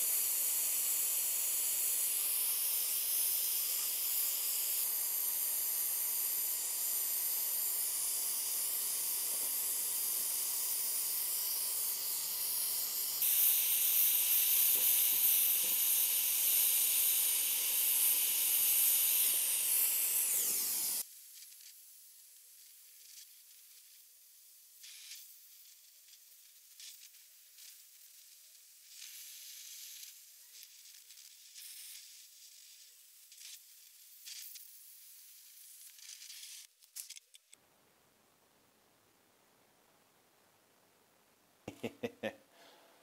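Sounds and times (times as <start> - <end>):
welding hiss: 0.0 - 37.2.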